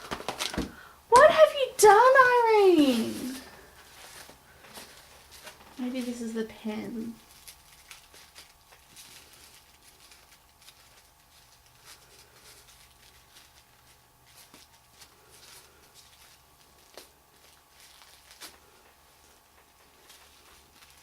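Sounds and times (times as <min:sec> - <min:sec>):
low steady hum: 0:00.0 - 0:21.0
paper wrapping crinkling: 0:00.0 - 0:21.0.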